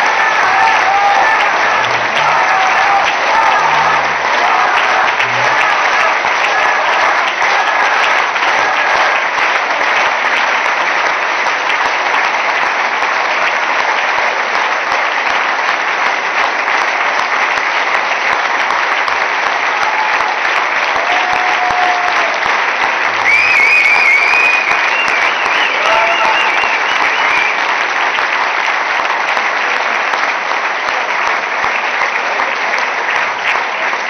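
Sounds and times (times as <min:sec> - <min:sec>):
large audience applauding: 0:00.0 - 0:34.0.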